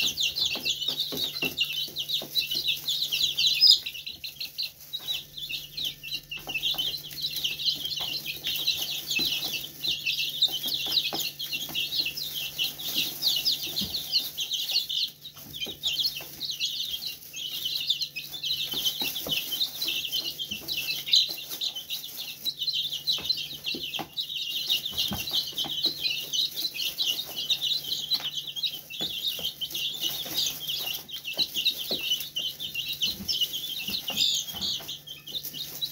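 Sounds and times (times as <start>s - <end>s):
chicks peeping: 0.0s - 35.9s
taps and rustles in hay: 0.0s - 35.9s.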